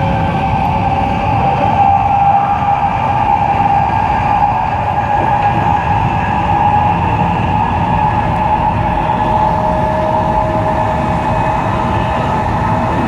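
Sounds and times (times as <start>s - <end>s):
constant whine: 0.0s - 13.0s
train rumble and rushing: 0.0s - 13.0s.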